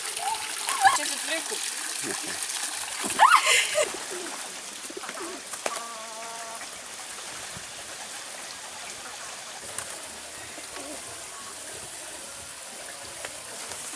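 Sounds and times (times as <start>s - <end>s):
steady hiss: 1.0s - 13.9s.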